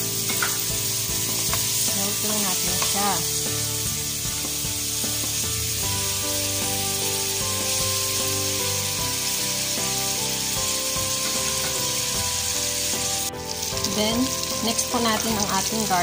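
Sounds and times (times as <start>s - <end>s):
background music: 0.0s - 16.0s
butter sizzling in a frying pan: 0.0s - 16.0s.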